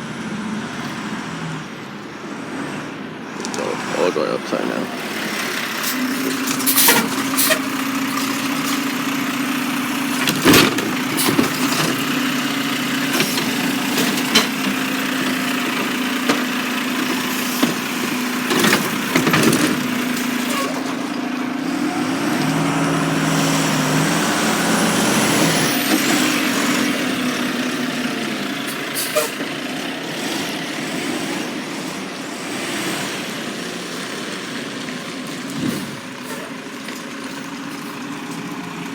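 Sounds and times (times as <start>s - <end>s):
garbage truck hum: 0.0s - 38.9s.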